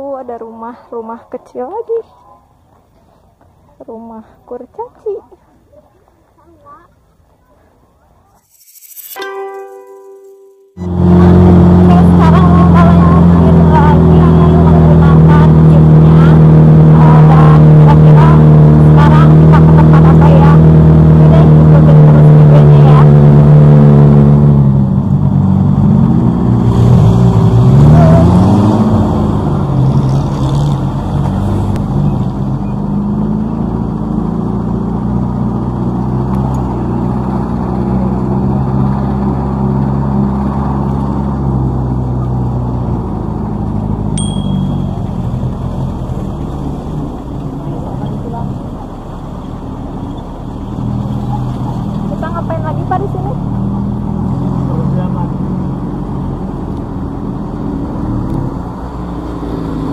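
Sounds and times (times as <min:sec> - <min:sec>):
jeep engine running: 0:10.8 - 0:59.9.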